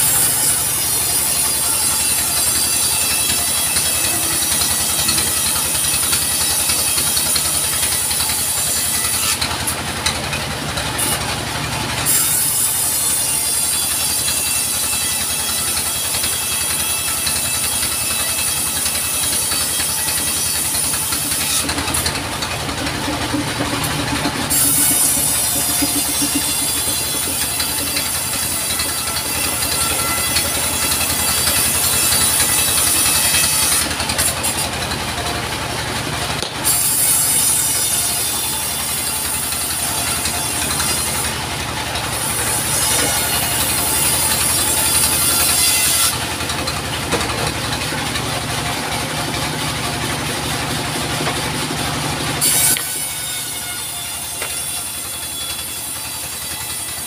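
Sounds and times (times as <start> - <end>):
band saw whining through logs: 0.0 - 57.0.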